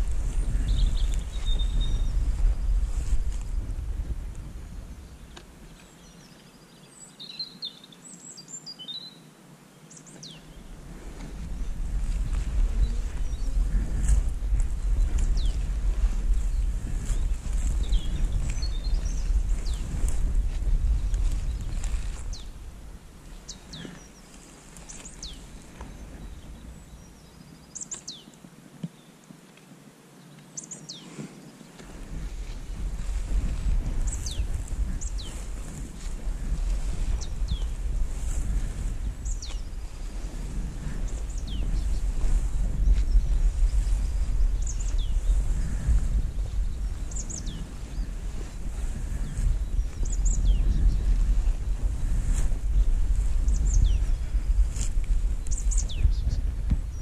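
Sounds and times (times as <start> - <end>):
wind rumbling on microphone: 0.0 - 7.4, 10.0 - 29.1, 30.9 - 57.0
songbirds chirping and trilling: 0.0 - 29.4, 30.0 - 57.0.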